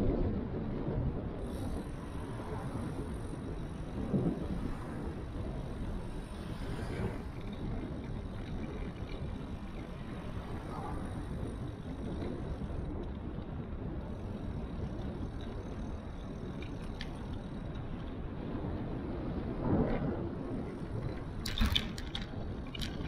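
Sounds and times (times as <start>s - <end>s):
bicycle tyres on asphalt: 0.0s - 23.0s
wind rumble on microphone: 0.0s - 23.0s.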